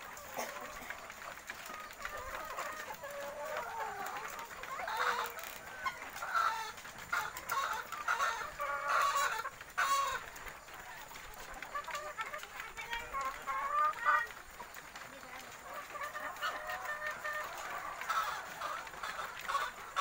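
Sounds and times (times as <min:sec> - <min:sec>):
flock of chickens clucking: 0:00.0 - 0:20.0.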